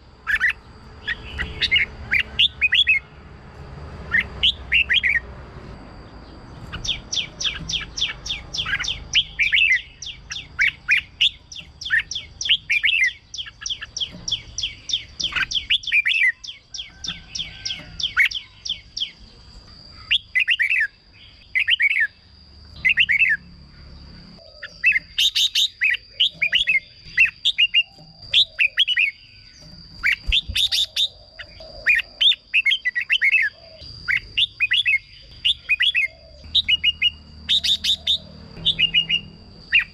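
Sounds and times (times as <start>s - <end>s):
bird singing bright chirps: 0.0s - 39.9s.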